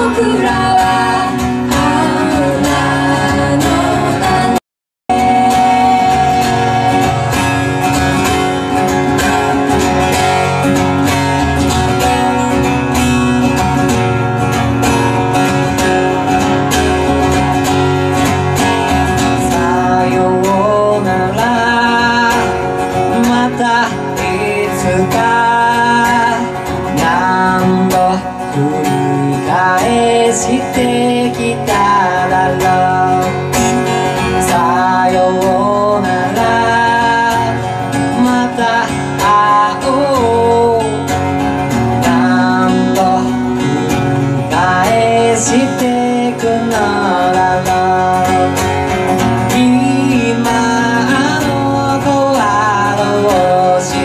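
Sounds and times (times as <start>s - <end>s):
person singing: 0.0s - 8.7s, 18.8s - 54.0s
acoustic guitars strumming: 0.0s - 54.0s.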